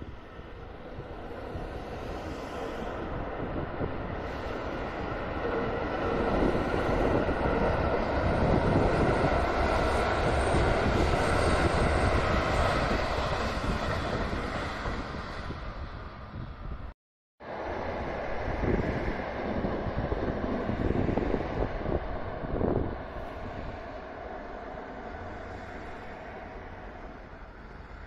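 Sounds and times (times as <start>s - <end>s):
train rumbling over a steel bridge: 0.0s - 28.0s.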